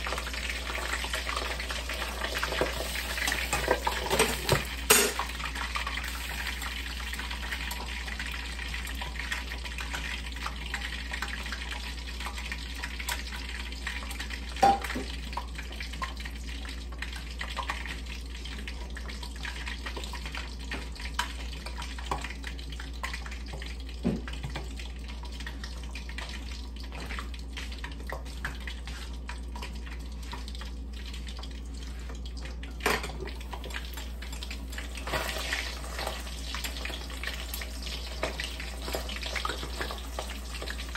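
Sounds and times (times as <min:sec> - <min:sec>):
fish sizzling in oil: 0:00.0 - 0:40.9.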